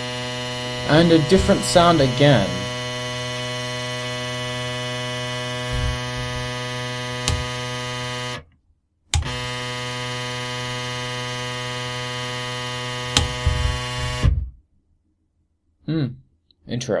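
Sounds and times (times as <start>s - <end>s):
stepper motor buzzing tone: 0.0s - 8.4s, 9.2s - 14.5s.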